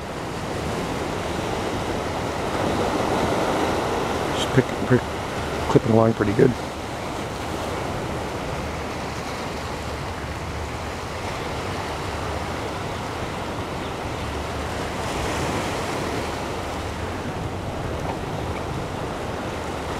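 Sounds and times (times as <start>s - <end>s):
ocean surf: 0.0s - 19.9s
wind: 0.0s - 19.9s.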